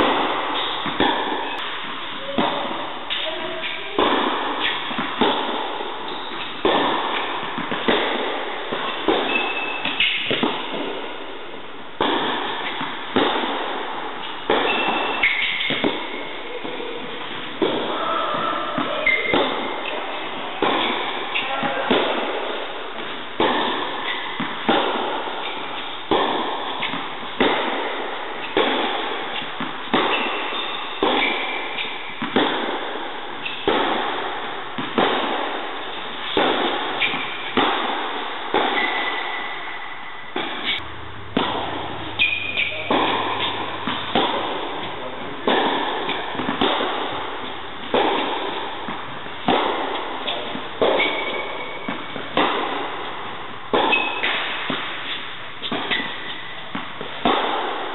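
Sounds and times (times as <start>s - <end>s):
tennis ball bouncing: 0.0s - 57.9s
tennis racket hitting ball: 0.0s - 57.9s.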